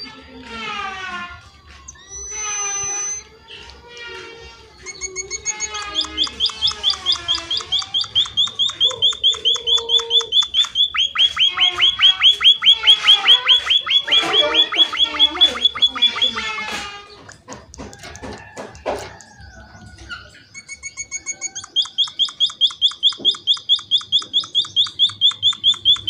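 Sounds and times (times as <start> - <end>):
finch singing: 1.8 - 3.7, 4.7 - 26.0.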